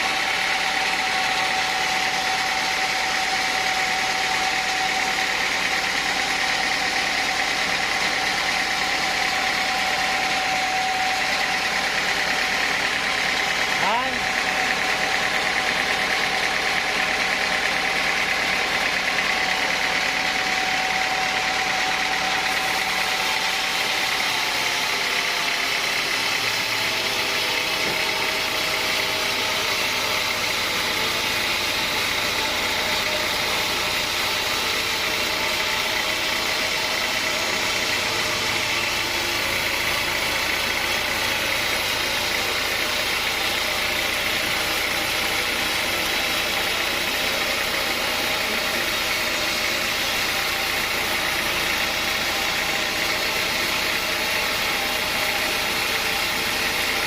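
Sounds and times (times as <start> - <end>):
sawmill machinery humming: 0.0 - 57.0.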